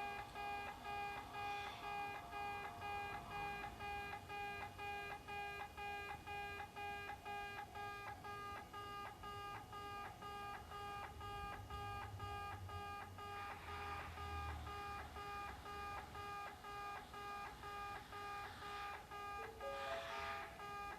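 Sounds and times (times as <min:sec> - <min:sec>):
level crossing warning beeps: 0:00.0 - 0:20.9.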